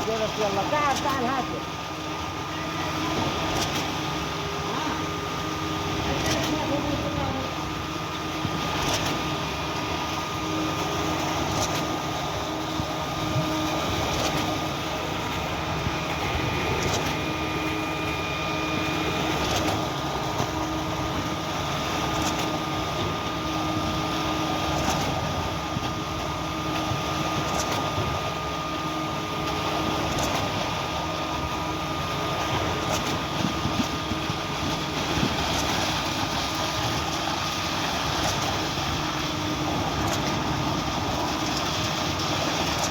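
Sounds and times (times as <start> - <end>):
concrete pump running: 0.0 - 42.9.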